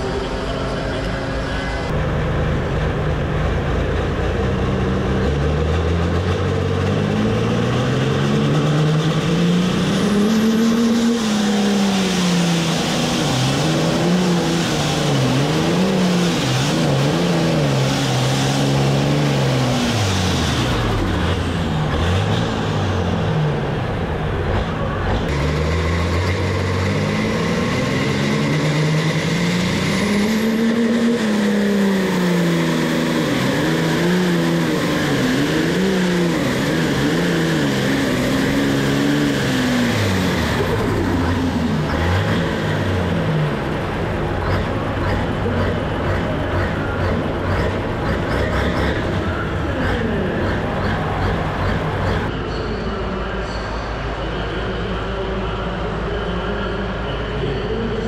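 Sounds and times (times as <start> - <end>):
tractor diesel engine revving: 0.0 - 52.5.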